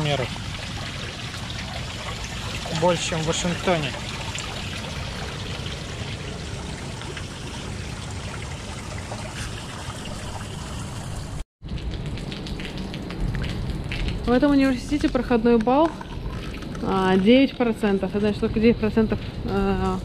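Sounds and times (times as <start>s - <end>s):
water pouring into storm drain: 0.0s - 20.0s.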